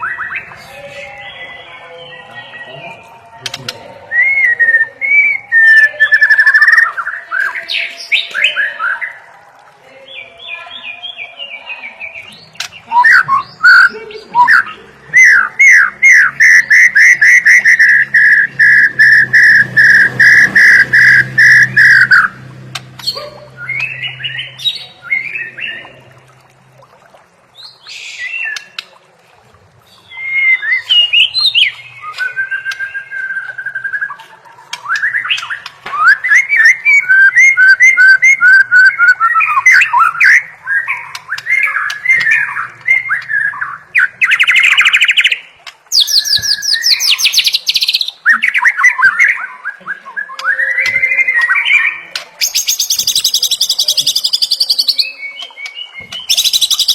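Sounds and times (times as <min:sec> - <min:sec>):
songbird whistling song: 0:00.0 - 0:09.2, 0:10.2 - 0:22.4, 0:23.0 - 0:26.0, 0:29.9 - 0:56.9.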